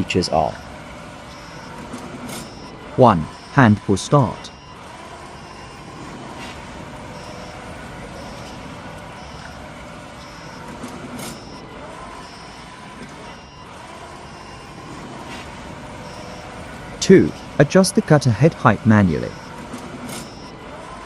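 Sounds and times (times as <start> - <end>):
small gasoline engine running: 0.0 - 21.0
faint high beeps: 1.3 - 20.6.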